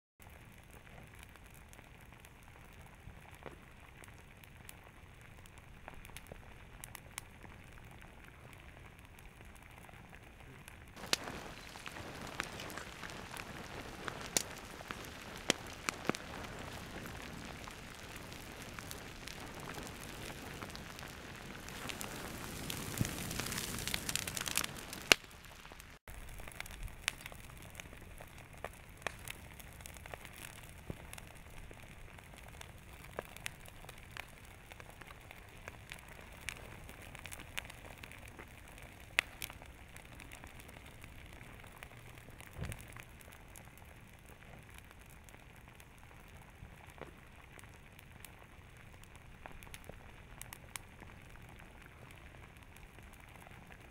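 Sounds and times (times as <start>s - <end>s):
lava crackling and popping: 0.2s - 53.9s.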